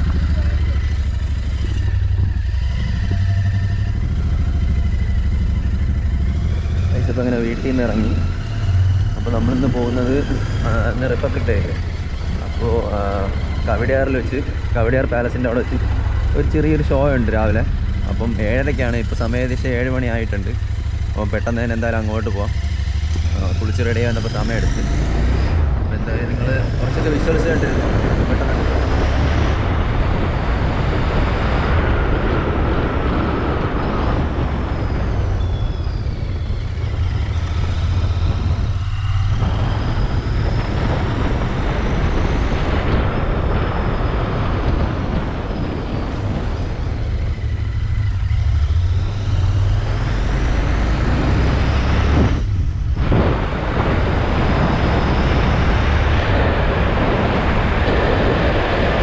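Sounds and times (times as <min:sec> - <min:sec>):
motorcycle engine cruising: 0:00.0 - 0:59.0
road and wind rush: 0:00.0 - 0:59.0.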